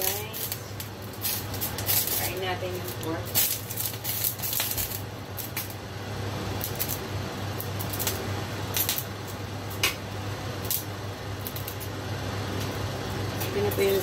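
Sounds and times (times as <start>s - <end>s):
hot oil crackling and popping: 0.0s - 14.0s
low hum and hiss: 0.0s - 14.0s.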